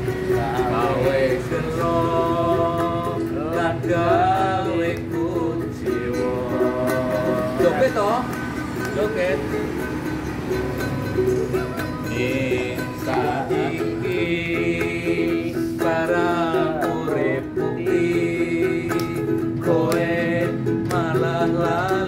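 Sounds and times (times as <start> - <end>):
person singing slow melody: 0.0 - 8.3, 10.7 - 22.0
ukulele strumming: 0.0 - 22.0.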